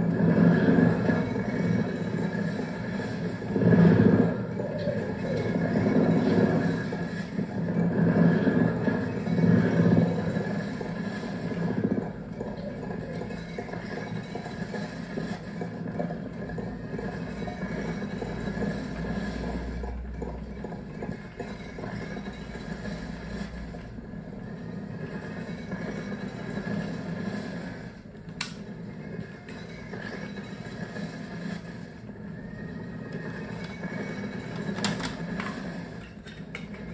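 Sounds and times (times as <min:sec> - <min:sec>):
layered cassette tape loops: 0:00.0 - 0:36.9.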